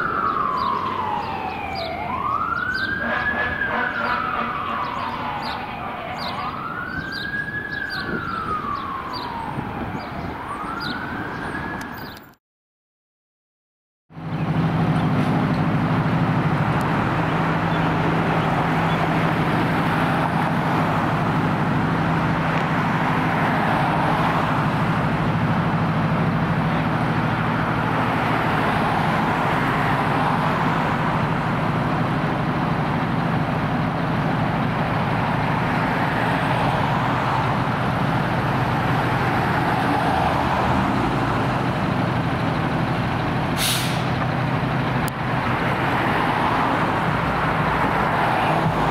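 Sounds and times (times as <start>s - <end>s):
fire engine siren wailing: 0.0s - 12.2s, 14.1s - 48.9s
diesel engine rumbling: 0.0s - 12.4s, 14.1s - 48.9s.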